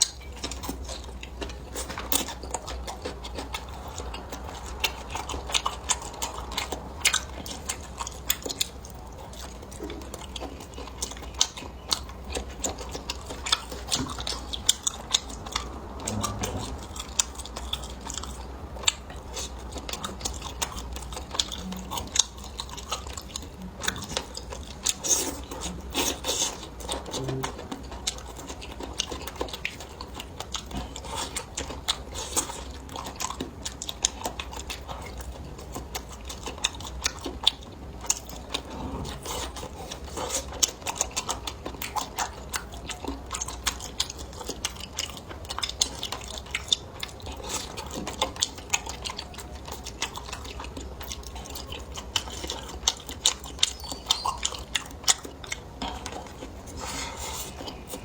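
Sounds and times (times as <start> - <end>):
faint low hum: 0.0 - 58.0
person chewing food: 0.0 - 58.0.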